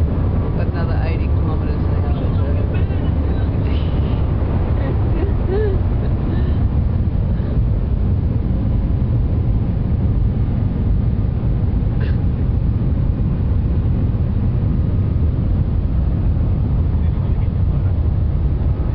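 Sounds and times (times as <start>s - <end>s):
train cabin rumble: 0.0s - 18.9s.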